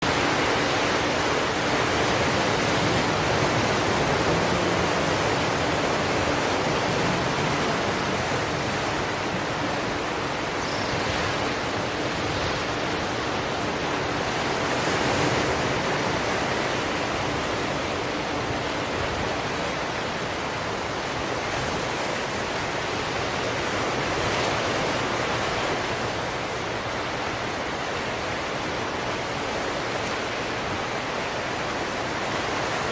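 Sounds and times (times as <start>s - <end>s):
ocean waves breaking: 0.0s - 32.9s.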